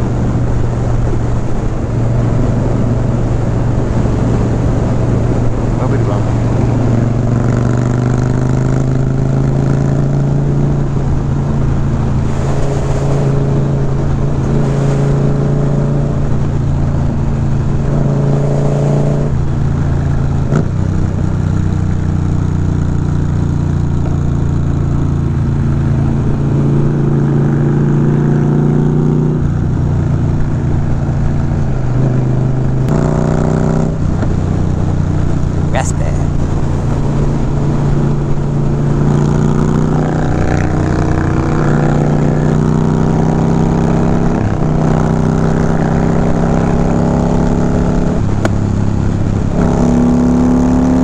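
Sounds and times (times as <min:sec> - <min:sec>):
motorcycle engine cruising: 0:00.0 - 0:51.0
wind rushing over microphone: 0:00.0 - 0:51.0.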